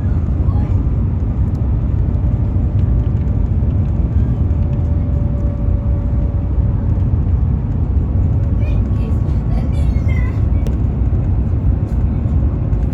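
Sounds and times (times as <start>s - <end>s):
train low rumble: 0.0s - 12.9s.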